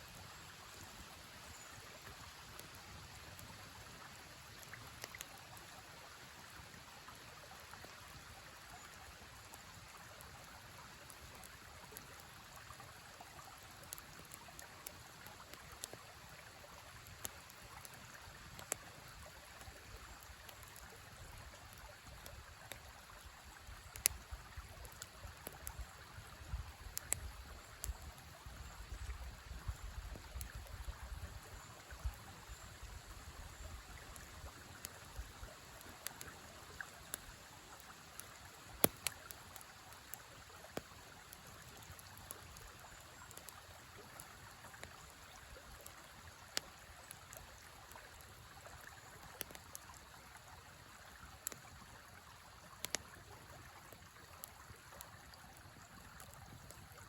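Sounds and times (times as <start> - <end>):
campfire crackling: 0.0 - 57.0
river flowing: 0.0 - 57.0.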